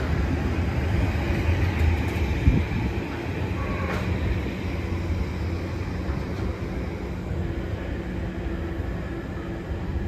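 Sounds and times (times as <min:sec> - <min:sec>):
freight train rumbling on rails: 0:00.0 - 0:10.0.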